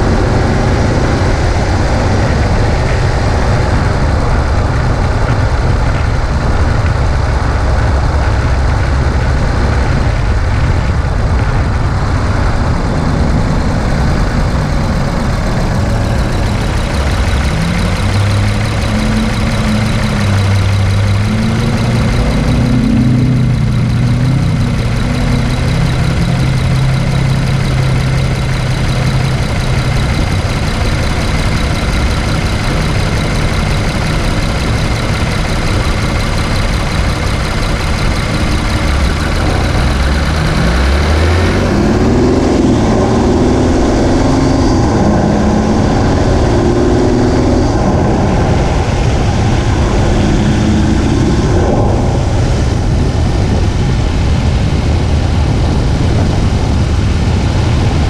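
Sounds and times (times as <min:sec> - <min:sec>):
car engine drone: 0:00.0 - 0:58.0
low rumble: 0:00.0 - 0:58.0.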